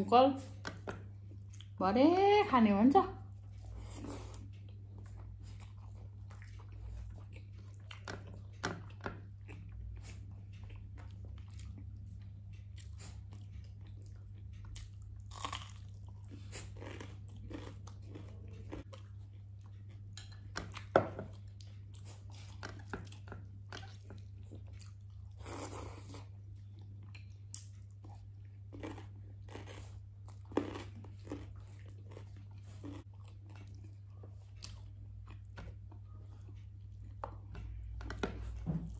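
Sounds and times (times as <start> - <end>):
person chewing crunchy food: 3.4 - 38.9.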